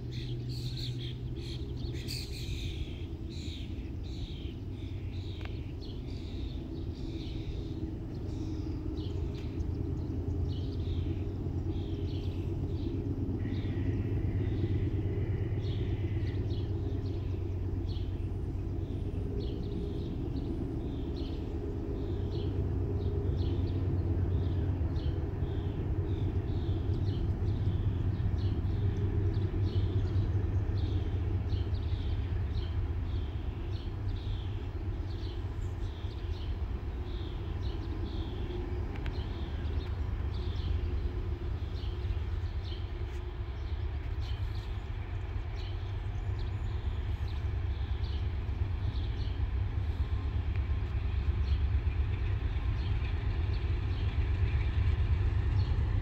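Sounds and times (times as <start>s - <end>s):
distant freight train rumble: 0.0s - 56.0s.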